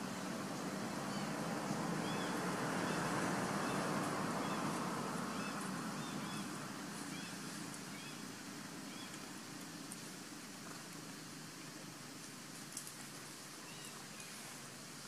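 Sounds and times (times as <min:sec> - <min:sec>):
distant engine drone: 0:00.0 - 0:12.2.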